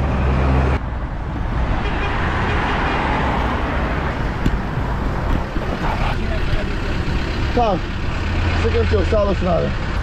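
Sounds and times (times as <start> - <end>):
road traffic rushing past: 0.0 - 10.0.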